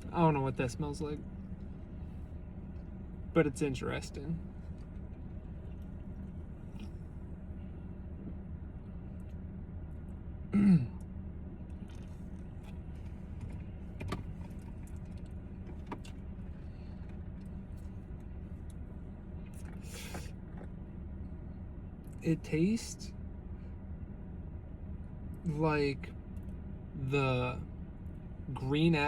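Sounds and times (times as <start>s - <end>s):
car engine humming: 0.0s - 29.0s.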